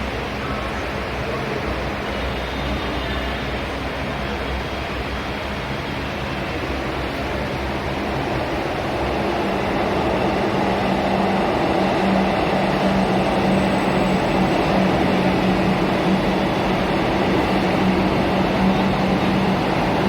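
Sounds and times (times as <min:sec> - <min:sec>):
metro train rumbling: 0:00.0 - 0:20.0.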